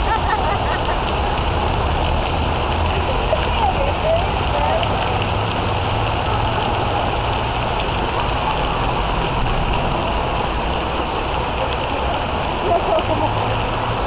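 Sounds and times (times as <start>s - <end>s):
heavy rain pouring on pavement: 0.0s - 14.0s.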